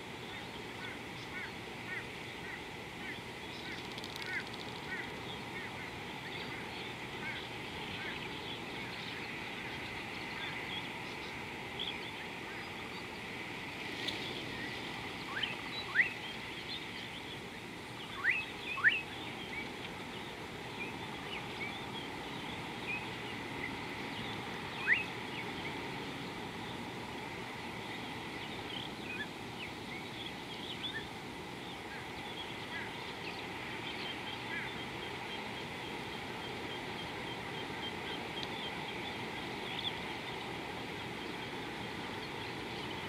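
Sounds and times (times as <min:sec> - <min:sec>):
steady outdoor hiss: 0:00.0 - 0:43.0
birds chirping: 0:00.2 - 0:26.9, 0:27.8 - 0:43.0.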